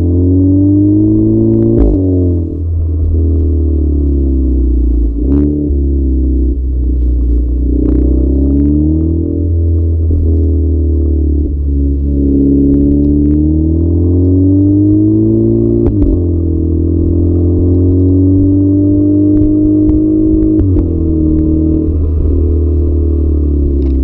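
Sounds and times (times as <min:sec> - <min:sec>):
car engine accelerating: 0:00.0 - 0:24.0
deep drone: 0:00.0 - 0:24.0.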